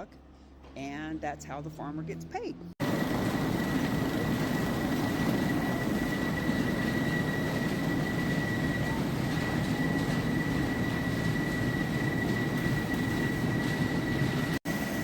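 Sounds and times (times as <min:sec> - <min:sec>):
machinery rumbling with high whine: 0:00.3 - 0:15.0.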